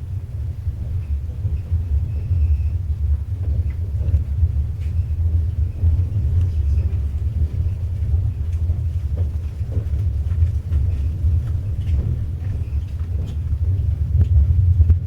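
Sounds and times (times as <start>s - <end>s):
train carriage rumbling: 0.0s - 15.0s.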